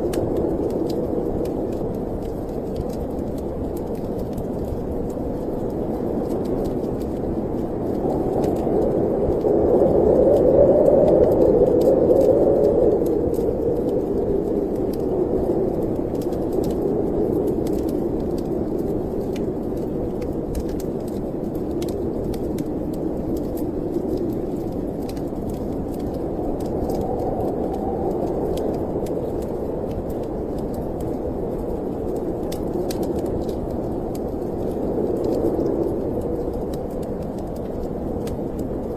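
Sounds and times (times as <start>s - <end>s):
snowstorm wind blowing: 0.0s - 38.9s
wood fire crackling: 0.0s - 38.9s.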